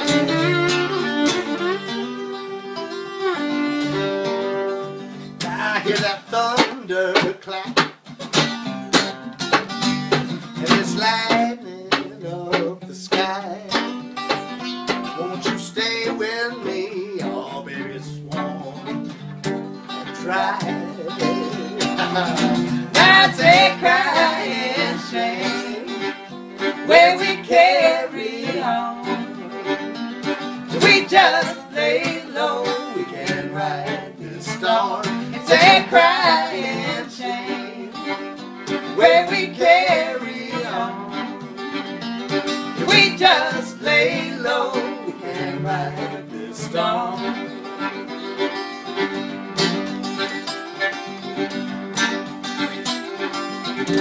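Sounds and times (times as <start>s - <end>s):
fiddle melody: 0.0s - 54.0s
strummed guitar: 0.0s - 54.0s.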